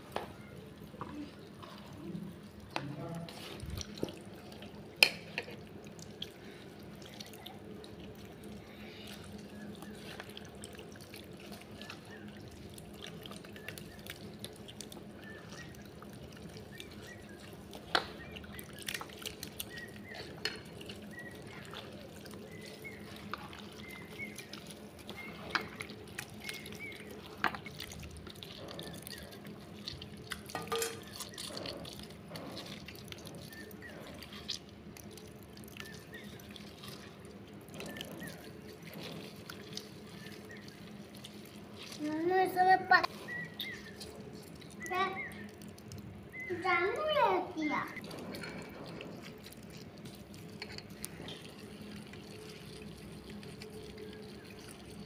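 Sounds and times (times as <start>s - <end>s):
hands squelching fruit pulp: 0.0s - 55.0s
juice dripping: 0.0s - 55.0s.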